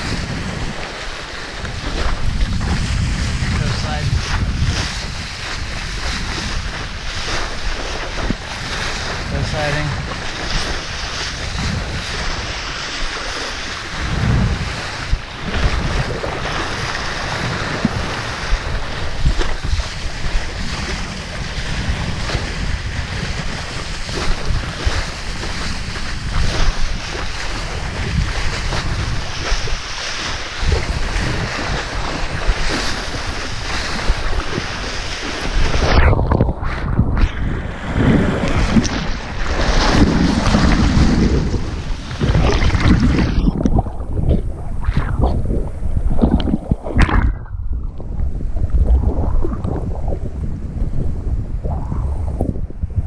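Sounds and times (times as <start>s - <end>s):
water rushing and slapping: 0.0s - 53.0s
wind buffeting microphone: 0.0s - 53.0s.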